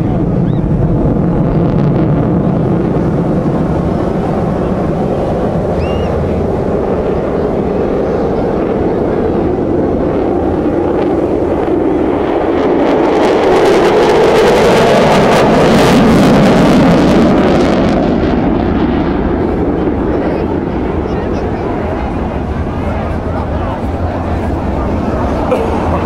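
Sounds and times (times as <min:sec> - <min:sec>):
jet aircraft roaring past: 0:00.0 - 0:26.0.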